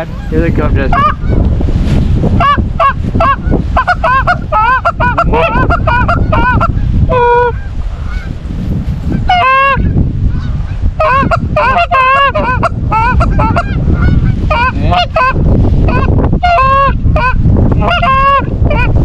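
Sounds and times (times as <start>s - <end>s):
geese honking: 0.0s - 1.4s, 2.4s - 8.4s, 9.1s - 19.0s
steady low rumble: 0.0s - 19.0s.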